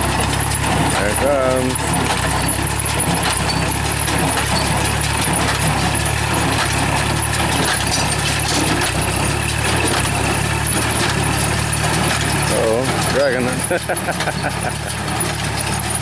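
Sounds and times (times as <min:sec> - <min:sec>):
straw baler working: 0:00.0 - 0:16.0
tractor engine running under load: 0:00.0 - 0:16.0.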